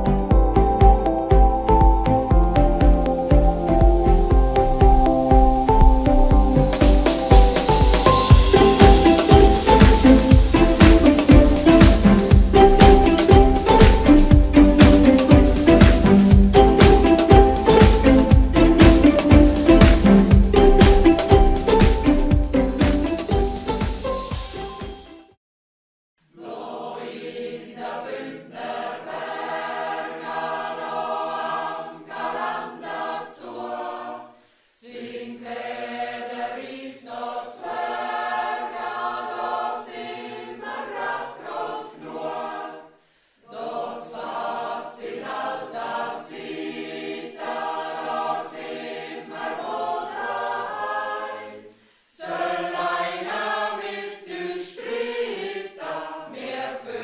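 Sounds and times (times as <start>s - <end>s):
mixed choir singing: 1.8s - 23.7s, 26.3s - 57.0s.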